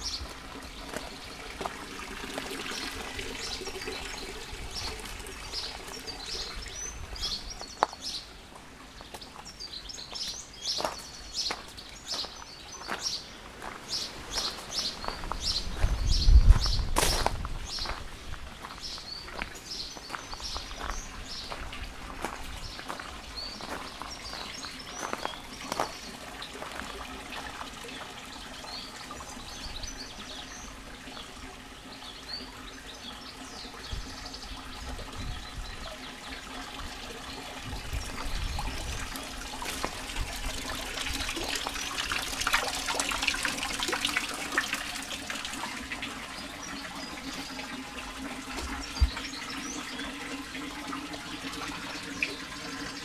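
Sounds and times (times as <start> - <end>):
birds chirping: 0.0 - 42.2, 45.5 - 53.0
water trickling into stone trough: 0.0 - 53.0.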